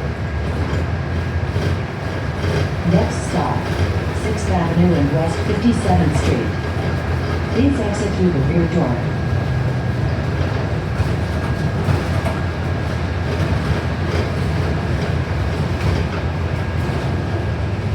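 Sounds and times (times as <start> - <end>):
bus drivetrain and road rumble: 0.0 - 17.9.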